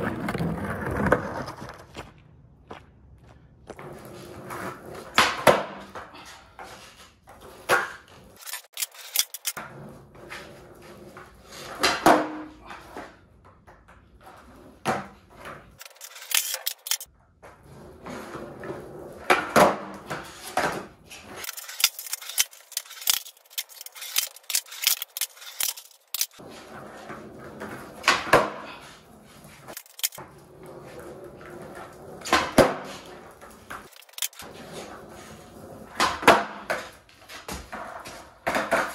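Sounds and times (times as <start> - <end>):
skateboard popping and landing: 0.0 - 2.0, 3.8 - 38.9
skateboard wheels rolling: 0.0 - 2.4, 3.6 - 38.9.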